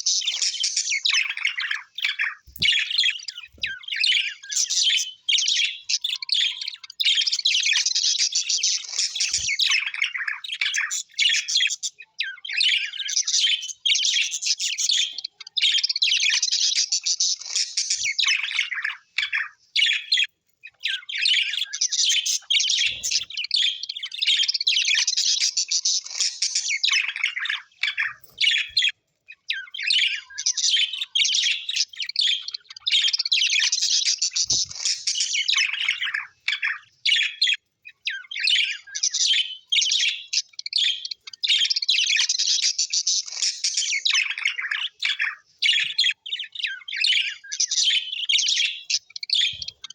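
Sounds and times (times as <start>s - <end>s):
small parrots chattering: 0.0s - 49.9s.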